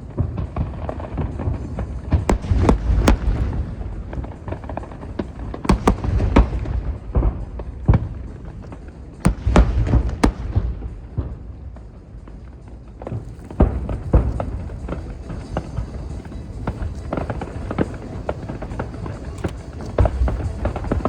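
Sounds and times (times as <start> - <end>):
distant booms rumbling: 0.0 - 11.6, 13.1 - 21.0
fireworks cracking and banging: 0.0 - 21.0.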